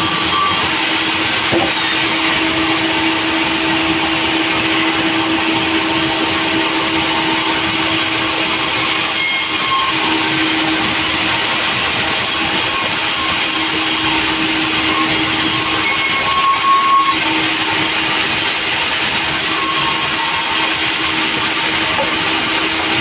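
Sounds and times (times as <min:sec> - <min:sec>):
sawmill saw running: 0:00.0 - 0:23.0.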